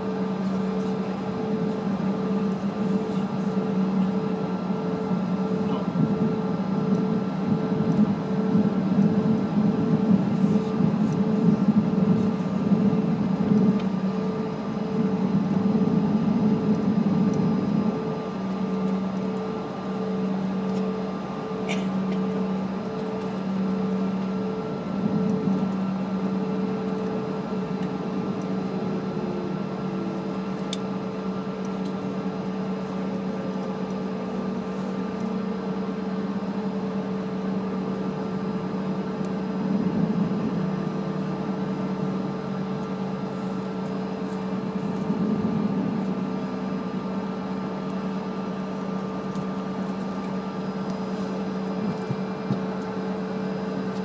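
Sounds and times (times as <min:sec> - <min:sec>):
jet engines idling whine: 0:00.0 - 0:54.0.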